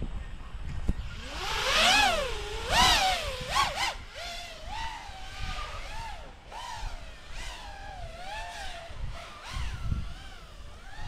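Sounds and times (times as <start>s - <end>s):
quadcopter motors whining: 0.3s - 11.0s.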